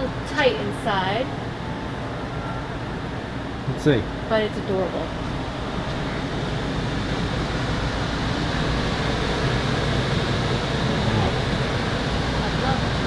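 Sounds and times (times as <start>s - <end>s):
steady rumbling background noise: 0.0s - 13.0s.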